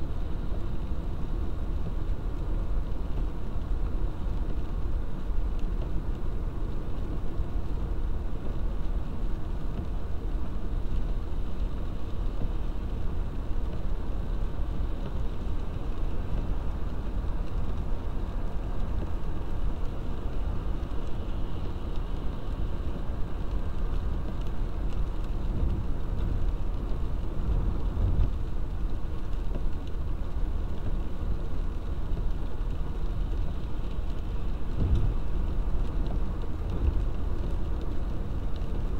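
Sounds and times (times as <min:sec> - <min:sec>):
car engine and tyres rumbling: 0:00.0 - 0:38.9
hiss of water on road: 0:00.0 - 0:38.9.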